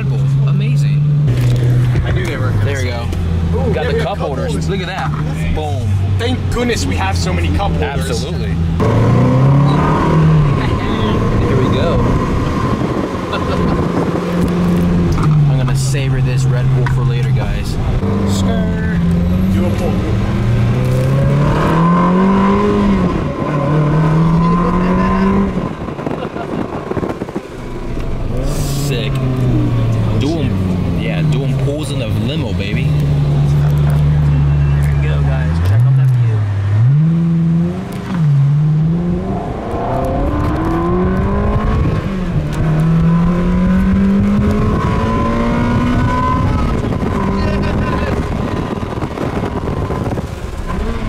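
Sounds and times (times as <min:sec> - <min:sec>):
car engine at full throttle: 0:00.0 - 0:51.0.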